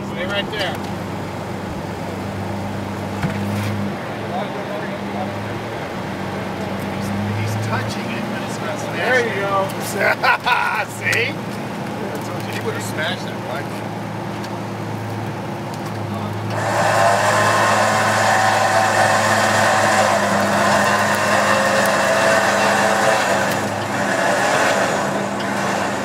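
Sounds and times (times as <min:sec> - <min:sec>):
truck engine under load: 0:00.0 - 0:26.0.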